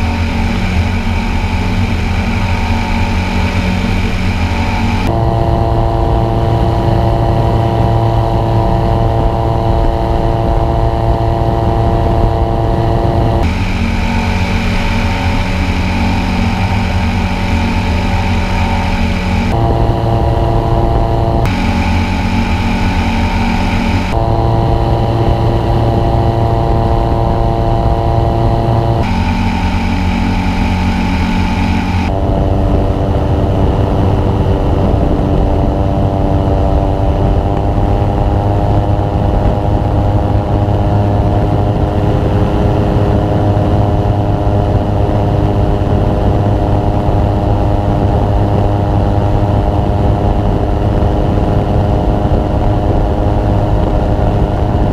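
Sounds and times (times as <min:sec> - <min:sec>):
light aircraft engine and propeller drone: 0:00.0 - 0:54.9.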